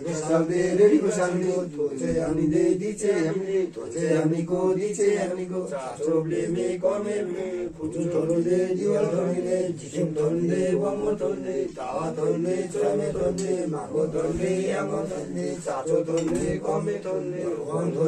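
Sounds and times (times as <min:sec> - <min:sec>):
men chanting: 0:00.0 - 0:18.0.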